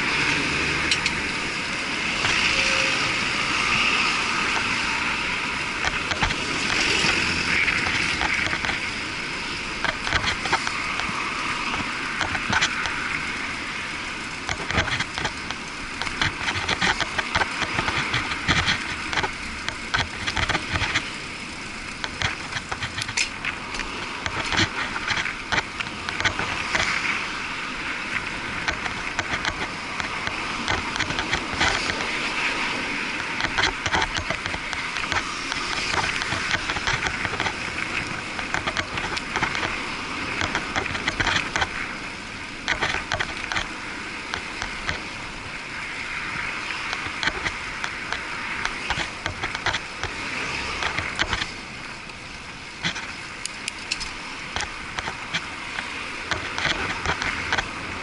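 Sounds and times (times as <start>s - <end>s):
muffled road noise: 0.0s - 58.0s
passing cars and vans: 0.0s - 58.0s.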